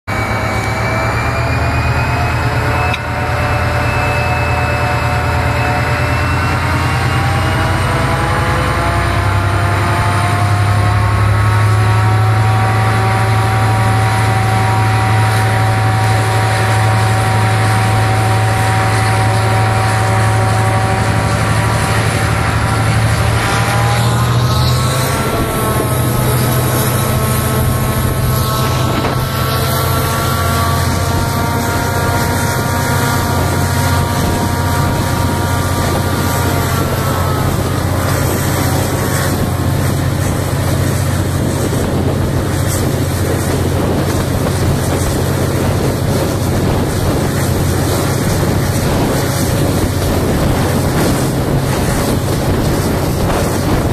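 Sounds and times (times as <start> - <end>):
locomotive engine drone: 0.0 - 53.9.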